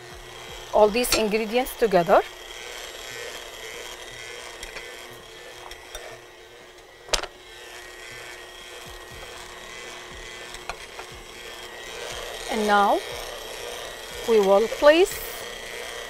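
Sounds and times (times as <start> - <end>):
stand mixer running: 0.0 - 16.0.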